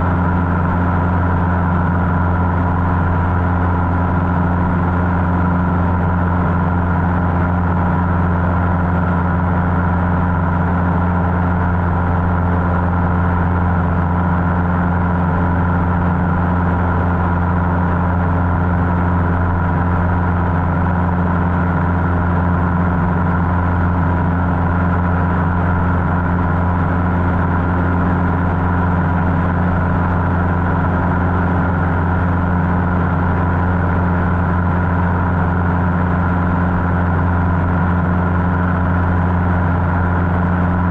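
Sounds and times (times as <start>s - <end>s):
airplane engine and propeller droning: 0.0s - 40.9s.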